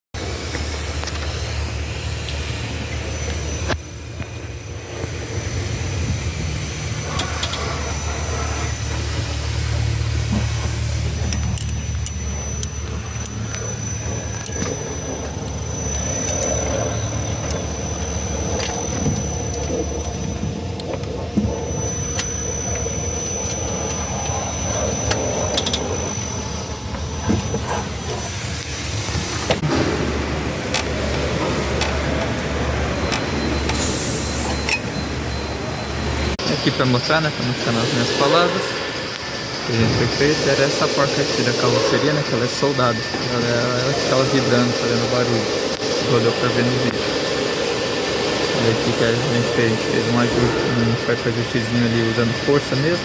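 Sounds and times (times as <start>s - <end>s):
road rumble: 0.2s - 53.0s
thin high whine: 0.2s - 53.0s.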